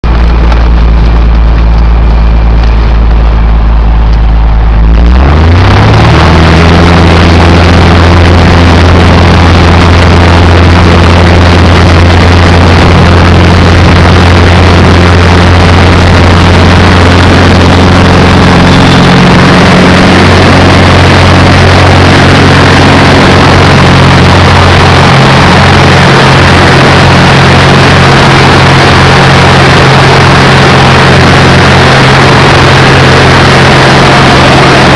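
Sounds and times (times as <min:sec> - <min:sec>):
light aircraft engine and propeller: 0:00.0 - 0:34.9.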